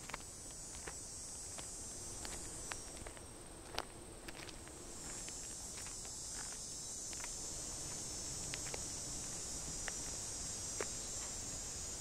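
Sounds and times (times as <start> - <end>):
footsteps on dirt: 0.0 - 11.4
cicadas buzzing: 0.0 - 12.0.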